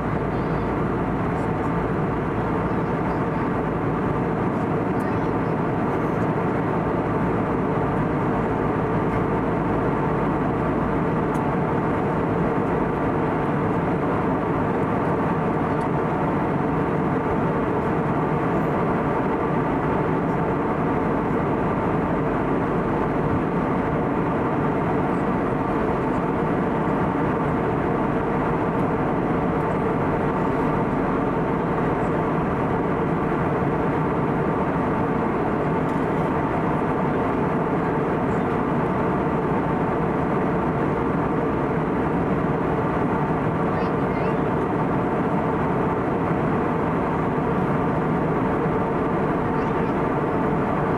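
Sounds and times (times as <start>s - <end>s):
low engine hum: 0.0s - 50.9s
rush of air in aircraft cabin: 0.0s - 50.9s.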